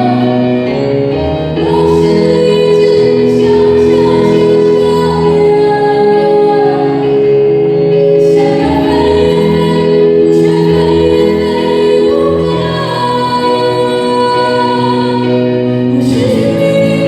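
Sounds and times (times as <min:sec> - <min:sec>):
musical accompaniment: 0:00.0 - 0:17.0
woman singing pop song: 0:00.0 - 0:17.0.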